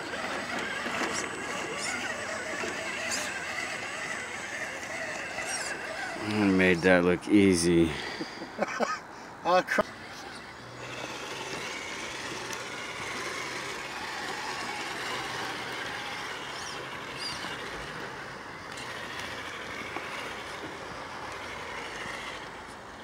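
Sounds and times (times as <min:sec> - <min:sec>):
electric motor and gears whining: 0:00.0 - 0:08.2, 0:09.6 - 0:23.0.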